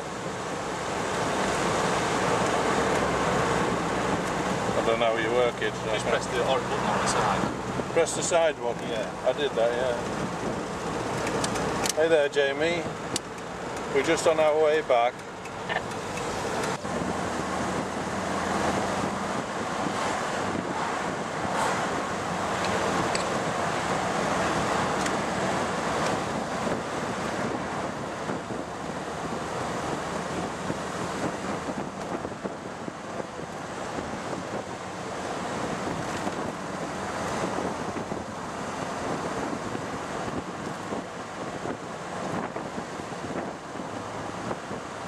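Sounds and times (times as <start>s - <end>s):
car engine: 0.0s - 45.0s
wind and road noise: 0.0s - 45.0s.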